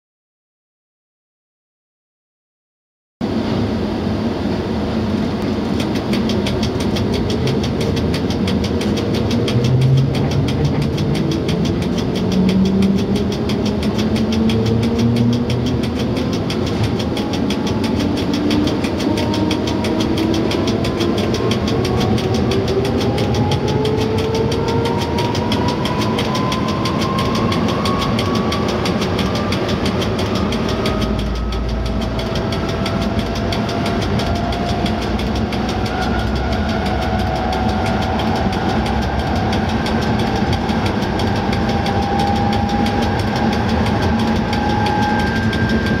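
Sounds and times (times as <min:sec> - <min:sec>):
electric locomotive motors whining: 0:03.2 - 0:46.0
train running rumble: 0:03.2 - 0:46.0.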